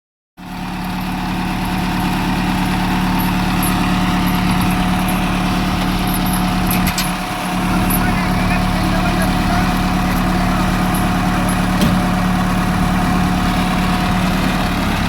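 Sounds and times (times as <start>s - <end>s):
heavy diesel engine running: 0.4s - 15.0s.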